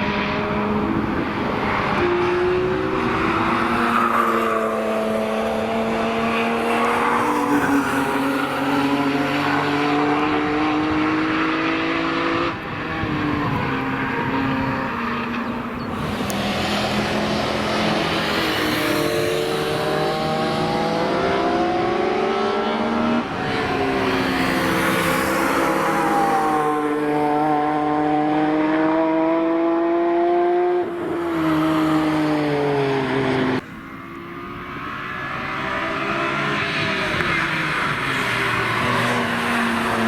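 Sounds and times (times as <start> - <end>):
race cars accelerating past: 0.0 - 40.0.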